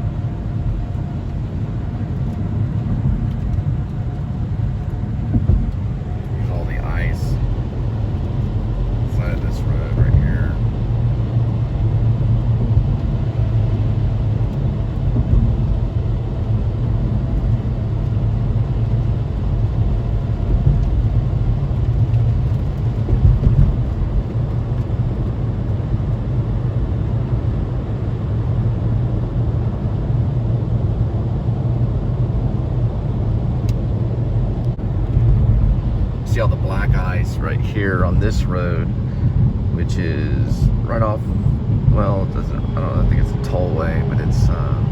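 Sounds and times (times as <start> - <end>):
car road and engine noise: 0.0 - 44.9.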